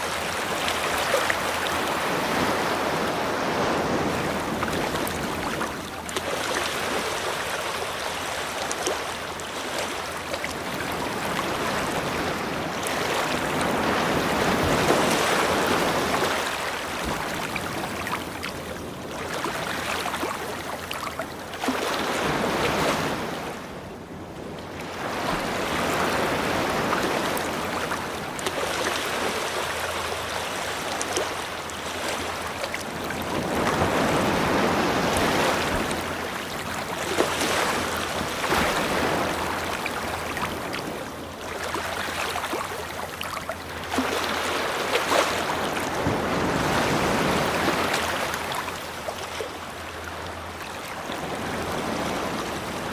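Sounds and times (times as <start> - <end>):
ocean waves washing onto a beach: 0.0 - 52.9.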